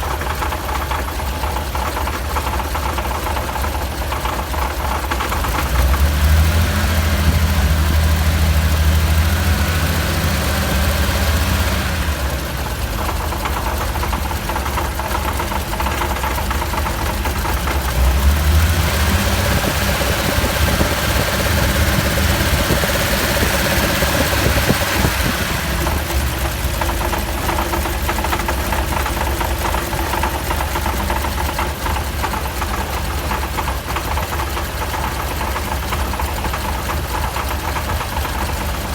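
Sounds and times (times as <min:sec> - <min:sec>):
car engine idling: 0:00.0 - 0:38.9
engine tappet noise: 0:00.0 - 0:38.9.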